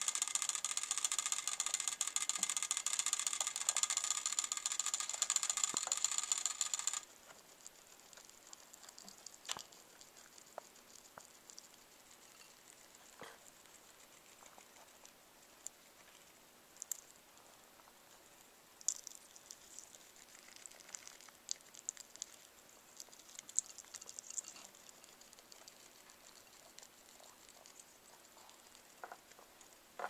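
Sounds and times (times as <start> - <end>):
rat eating peas clicking: 0.0 - 30.0.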